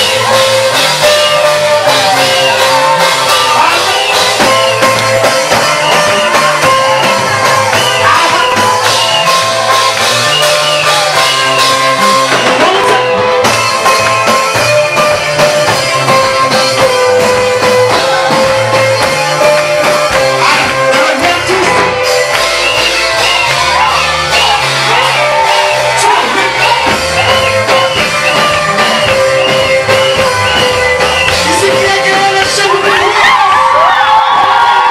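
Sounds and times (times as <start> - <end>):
wavering guitar melody: 0.0 - 33.4
steady drum beat: 0.0 - 34.9.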